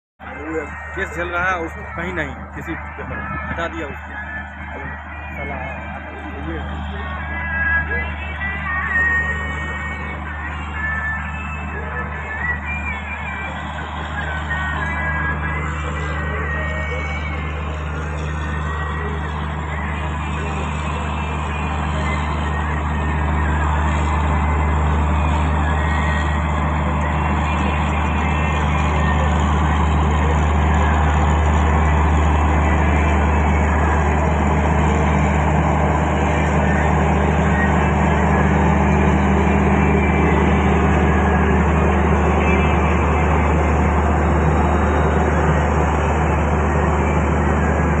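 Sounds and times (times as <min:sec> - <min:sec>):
train rumbling: 0:00.2 - 0:48.0.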